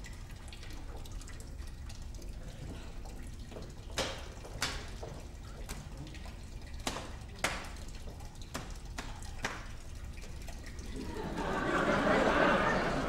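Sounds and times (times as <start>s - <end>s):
low steady hum: 0.0s - 13.0s
water dripping: 0.0s - 13.0s.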